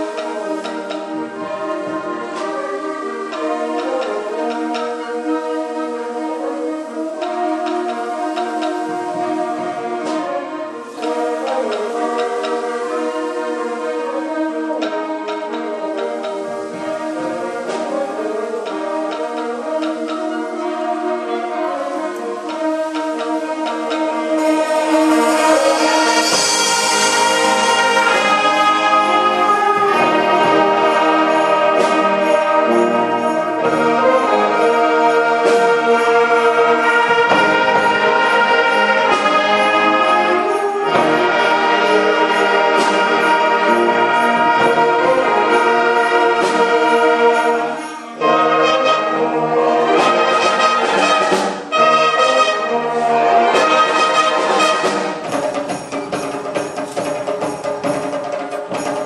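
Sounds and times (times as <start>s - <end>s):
wind band playing chords: 0.0s - 59.0s.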